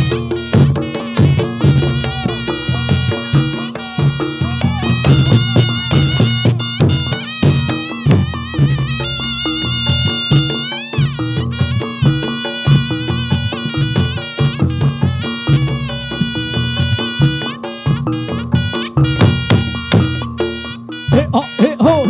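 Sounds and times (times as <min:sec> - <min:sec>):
drums keeping a steady beat: 0:00.0 - 0:22.0
high wind instrument melody: 0:00.0 - 0:22.0.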